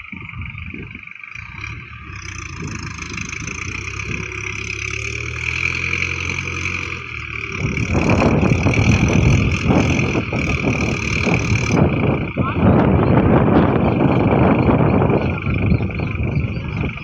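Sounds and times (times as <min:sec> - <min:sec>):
loud rough noise: 0:00.0 - 0:17.0
tractor engine running: 0:00.0 - 0:17.0.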